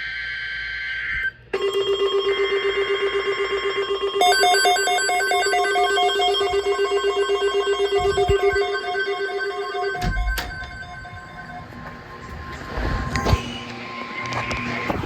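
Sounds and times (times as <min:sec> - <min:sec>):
steady electronic alarm tone: 0:00.0 - 0:14.9.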